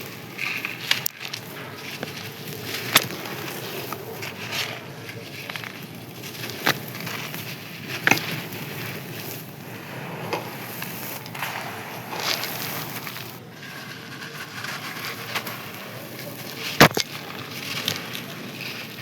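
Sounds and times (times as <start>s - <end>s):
dry clay crunching: 0.0s - 19.0s.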